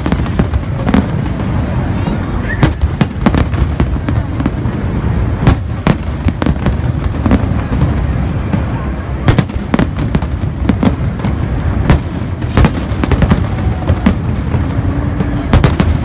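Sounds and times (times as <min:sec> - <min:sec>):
fireworks bangs: 0:00.0 - 0:16.0
low rumble of explosions: 0:00.0 - 0:16.0.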